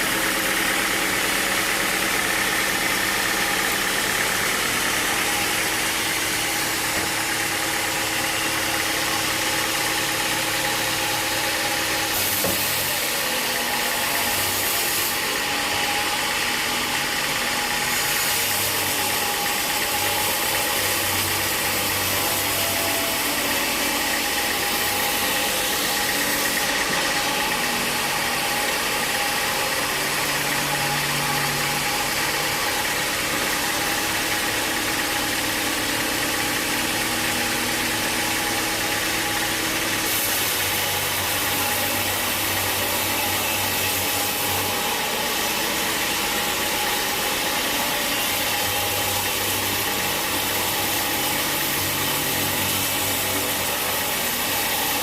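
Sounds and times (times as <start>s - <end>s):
sawmill machinery running: 0.0s - 55.0s
steady machine whine: 0.0s - 55.0s.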